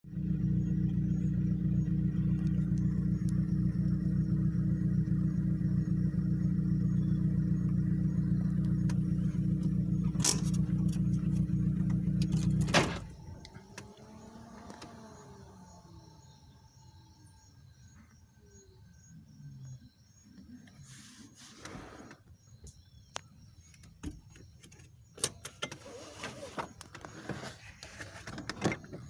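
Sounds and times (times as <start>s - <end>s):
engine rumbling: 0.0s - 29.0s
faint insects: 0.1s - 29.0s.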